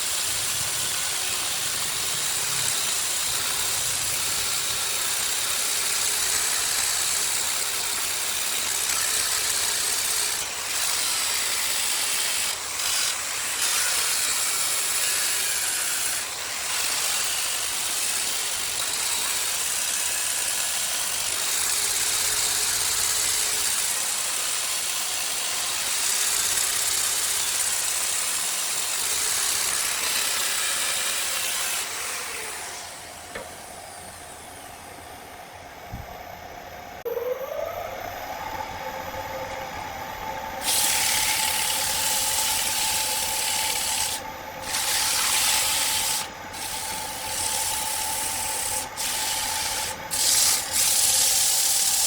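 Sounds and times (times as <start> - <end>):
power tool working wood: 0.0 - 35.2, 37.6 - 52.0.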